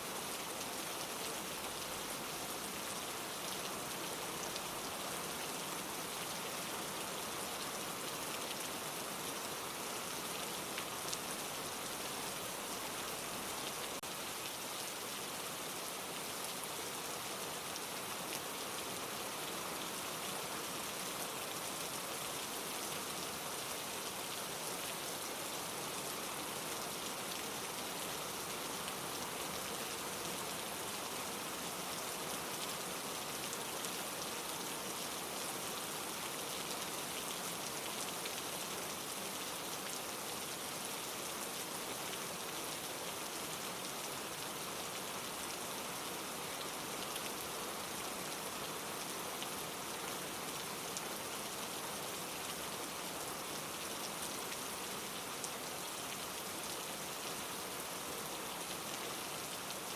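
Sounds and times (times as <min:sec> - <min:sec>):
light rain on leaves: 0:00.0 - 0:59.9.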